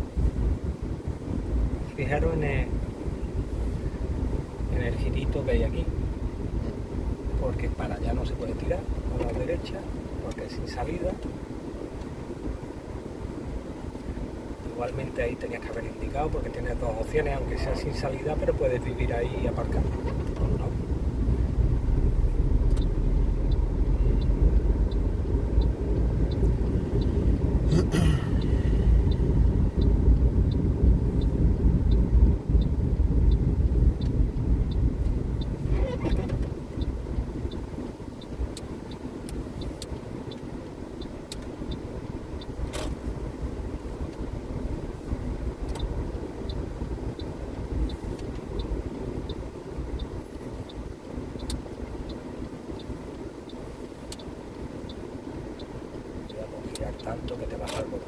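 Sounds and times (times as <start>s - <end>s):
car engine and tyre rumble: 0.0s - 58.0s
turn signal ticking: 0.3s - 58.0s.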